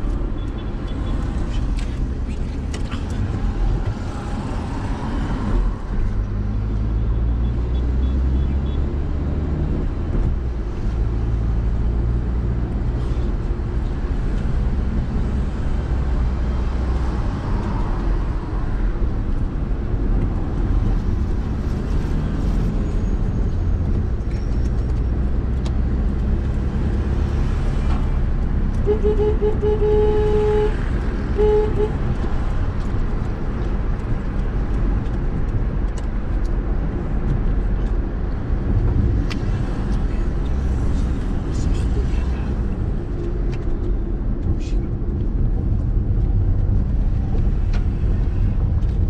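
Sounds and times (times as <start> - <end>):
car engine and tyre hum: 0.0 - 49.0
city traffic rumble: 0.0 - 49.0.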